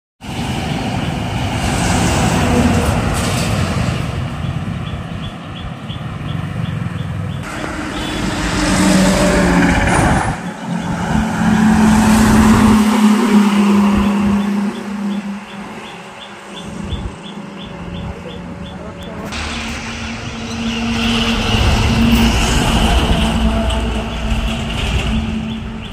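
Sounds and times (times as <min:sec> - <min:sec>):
highway traffic passing: 0:00.2 - 0:25.9
truck engine hum: 0:00.3 - 0:25.9.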